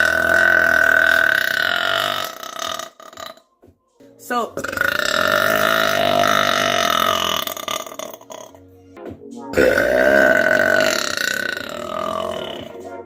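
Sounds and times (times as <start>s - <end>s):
woman belching: 0.0s - 3.4s, 4.6s - 8.5s, 9.6s - 12.7s.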